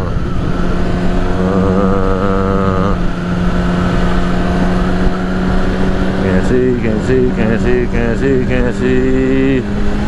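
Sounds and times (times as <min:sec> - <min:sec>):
motorcycle engine running: 0:00.0 - 0:10.0
wavering higher engine tone: 0:00.0 - 0:10.0
wind rush on microphone: 0:00.0 - 0:10.0.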